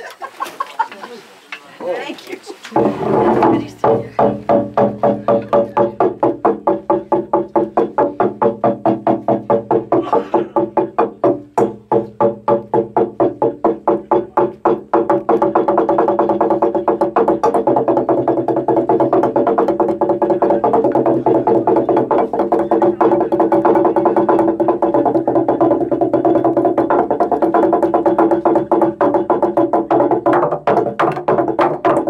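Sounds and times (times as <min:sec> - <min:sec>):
slit drum beating: 0:02.7 - 0:32.0.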